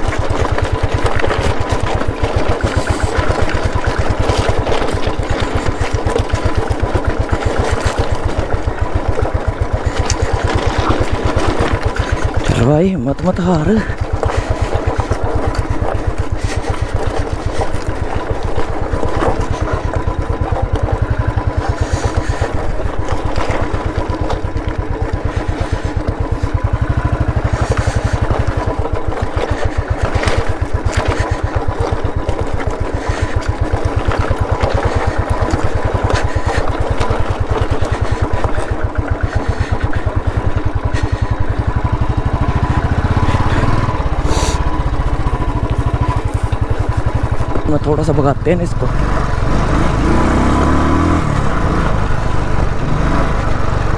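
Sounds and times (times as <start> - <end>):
knocks and clatter on stones: 0.0 - 48.9
motorcycle engine running: 0.0 - 53.9.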